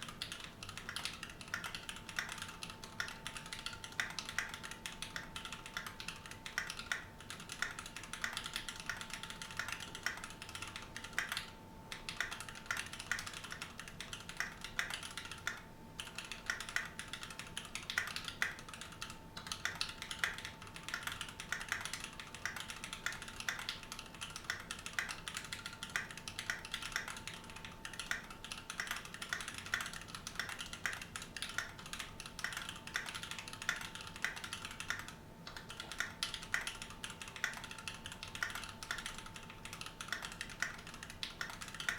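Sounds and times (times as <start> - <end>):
fast typing on mechanical keyboard: 0.0 - 41.9.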